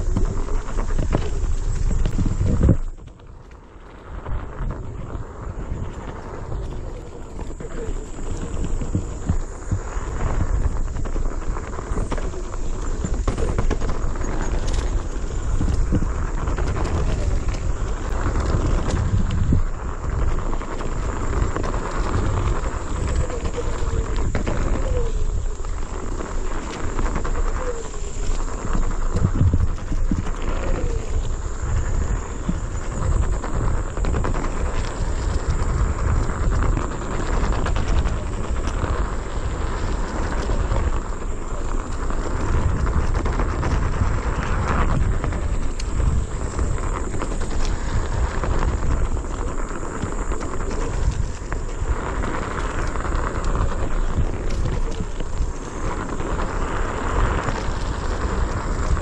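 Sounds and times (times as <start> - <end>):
wheels rumbling over dirt trail: 0.0 - 59.0
wind buffeting microphone: 0.0 - 59.0.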